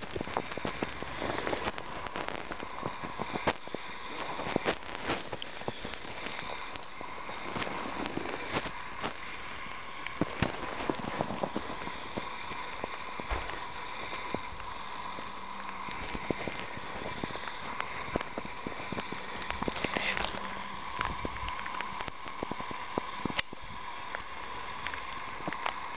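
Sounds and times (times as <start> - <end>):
steady hiss: 0.0 - 25.9.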